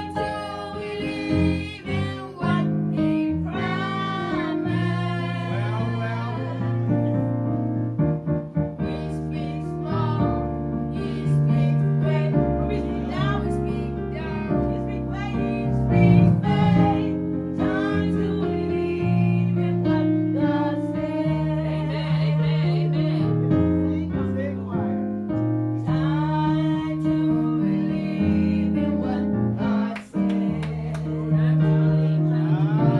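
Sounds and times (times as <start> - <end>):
youth choir singing gospel: 0.0 - 7.6, 8.7 - 24.8, 25.8 - 32.9
keyboard accompaniment: 0.0 - 32.9.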